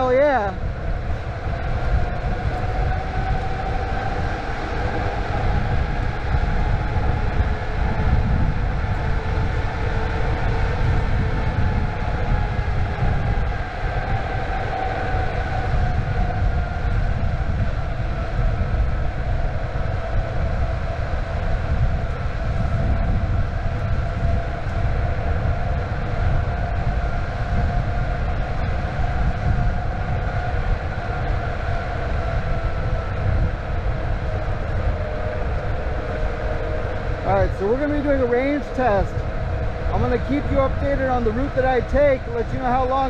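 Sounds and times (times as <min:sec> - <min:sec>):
electric motor whine: 0:00.0 - 0:43.0
wheels rumbling on pavement: 0:00.0 - 0:43.0
wind: 0:00.0 - 0:43.0.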